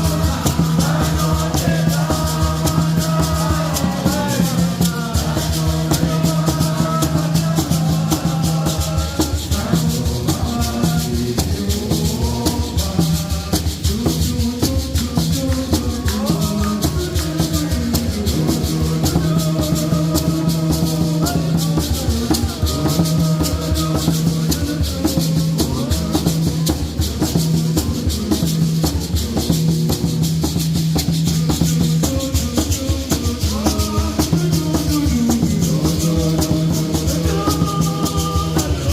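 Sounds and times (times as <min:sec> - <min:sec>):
shaker rattling: 0:00.0 - 0:38.9.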